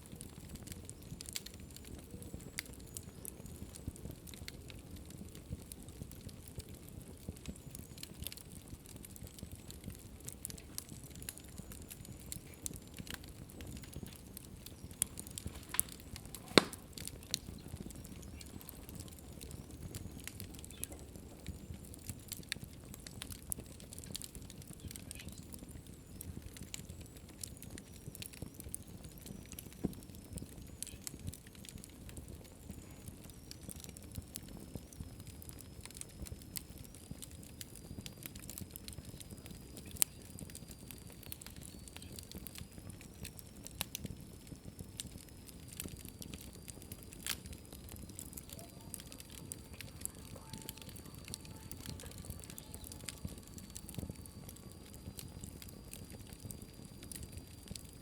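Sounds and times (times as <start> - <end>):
flame rumble: 0.0 - 58.0
wood fire crackling: 0.0 - 58.0.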